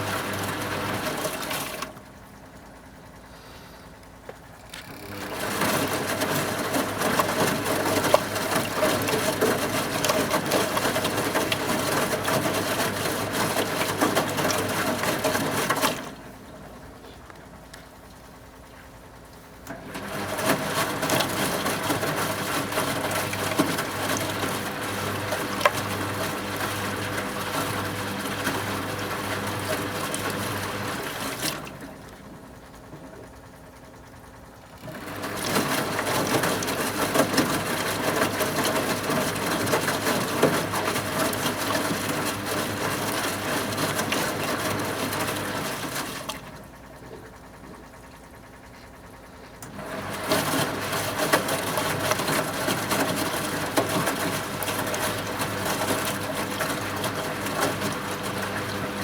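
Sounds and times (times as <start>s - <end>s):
water and laundry sloshing: 0.0s - 59.0s
washing machine drum turning: 4.4s - 17.0s, 19.6s - 33.3s, 34.6s - 46.9s, 49.6s - 59.0s.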